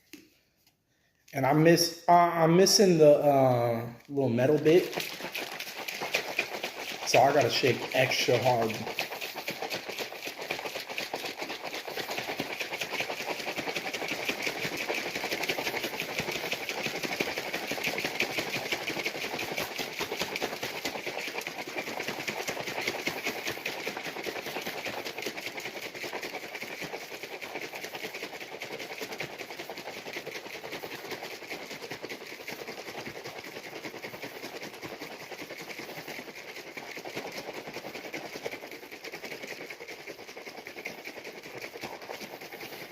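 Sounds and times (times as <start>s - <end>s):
liquid sloshing in shaker cup: 2.1s - 42.9s.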